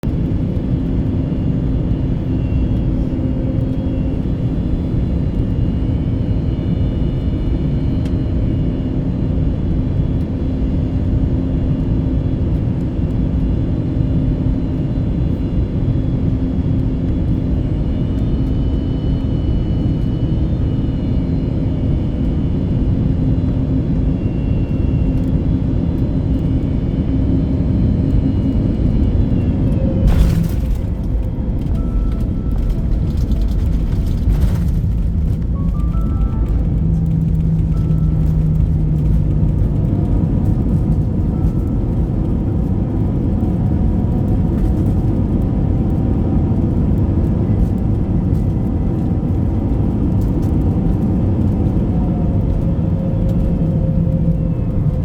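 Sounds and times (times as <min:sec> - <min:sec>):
airliner engines droning: 0:00.0 - 0:55.0
constant low hum: 0:00.0 - 0:55.0.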